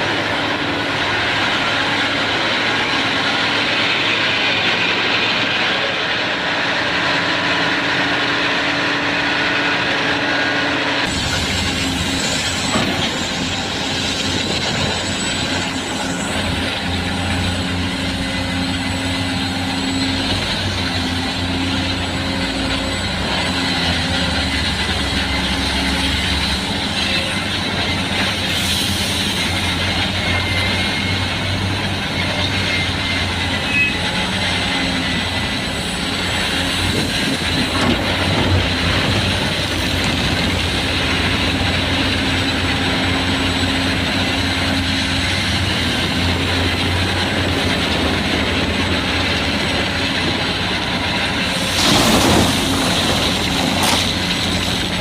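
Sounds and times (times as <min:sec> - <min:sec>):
large diesel engine humming: 0:00.0 - 0:55.0.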